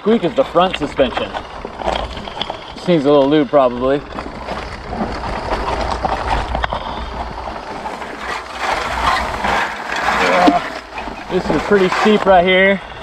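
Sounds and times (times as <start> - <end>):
tyres crunching over dirt and stones: 0.0 - 12.8.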